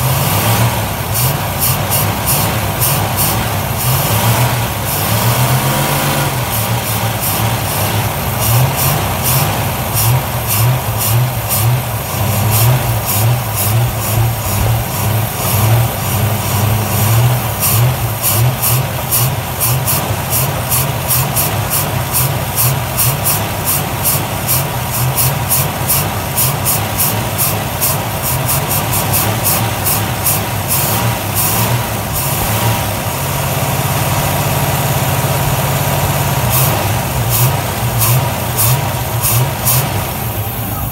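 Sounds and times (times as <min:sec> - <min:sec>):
sharp engine ticking: 0:00.0 - 0:32.6, 0:36.3 - 0:40.0
car engine idling: 0:00.0 - 0:40.9.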